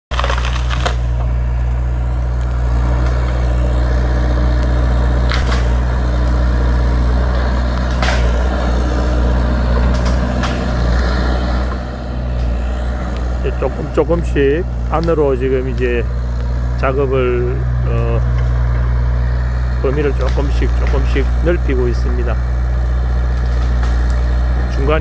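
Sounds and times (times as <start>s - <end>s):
excavator diesel engine running: 0.1s - 25.0s.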